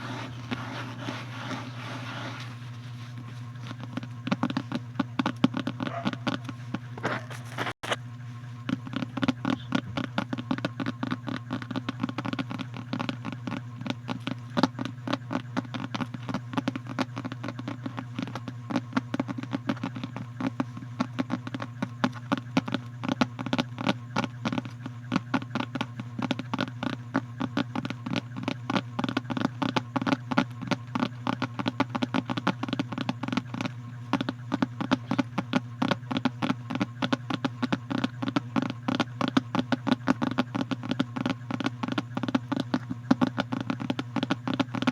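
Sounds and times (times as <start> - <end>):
rapid clicks and taps: 0.0 - 44.9
steady low hum: 0.0 - 44.9.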